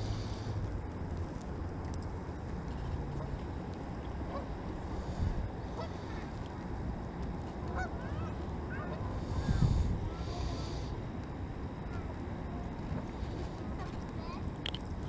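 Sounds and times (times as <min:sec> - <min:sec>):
water: 0:00.0 - 0:15.0
wind: 0:00.0 - 0:15.0.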